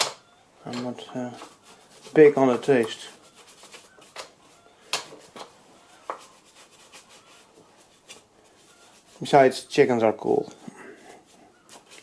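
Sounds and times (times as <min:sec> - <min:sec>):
brush bristles on metal: 0:00.7 - 0:10.4, 0:11.2 - 0:12.0.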